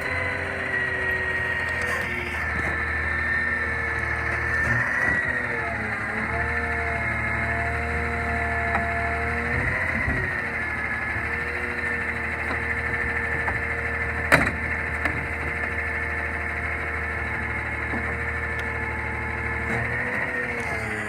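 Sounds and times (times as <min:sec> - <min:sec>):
engine whine: 0:00.0 - 0:21.0
truck engine running: 0:00.0 - 0:21.0.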